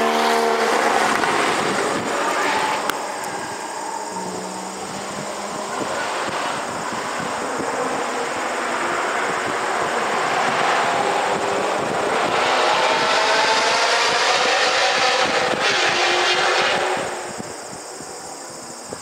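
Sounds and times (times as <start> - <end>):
race car engine running hard: 0.0 - 18.4.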